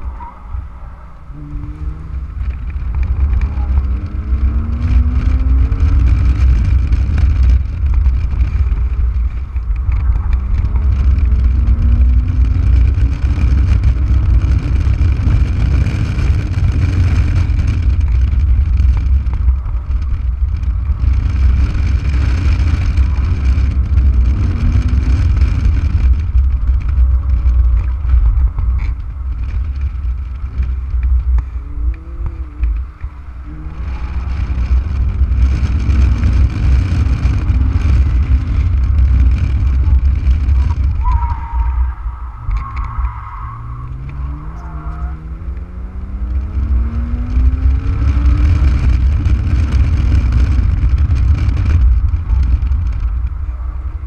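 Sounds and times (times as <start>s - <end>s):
car engine accelerating: 0.0s - 54.0s
wind rumble on microphone: 0.0s - 54.0s.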